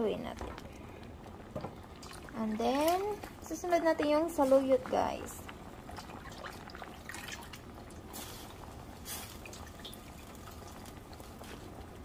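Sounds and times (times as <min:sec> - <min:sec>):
broth bubbling and popping: 0:00.0 - 0:12.0
faint steady hiss: 0:00.0 - 0:12.0.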